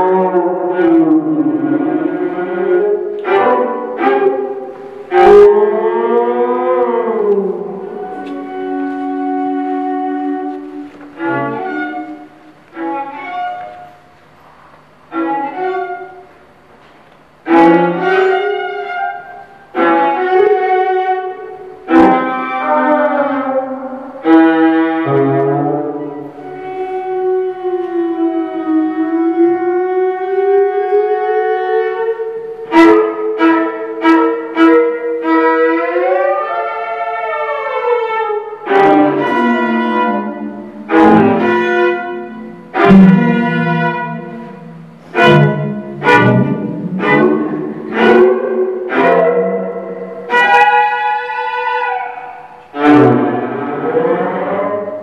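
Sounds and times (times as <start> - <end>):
solo viola with electronics: 0.0 - 14.2, 15.0 - 55.0.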